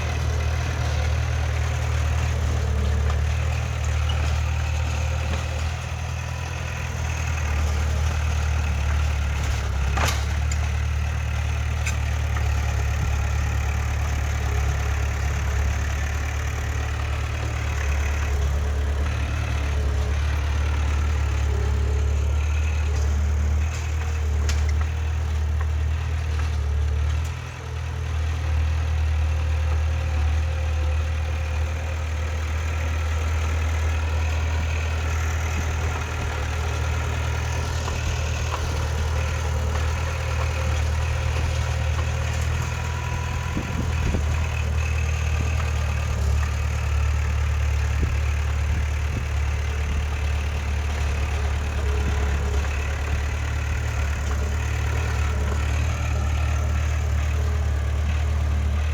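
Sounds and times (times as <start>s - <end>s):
heavy diesel machine engine running: 0.0s - 58.9s.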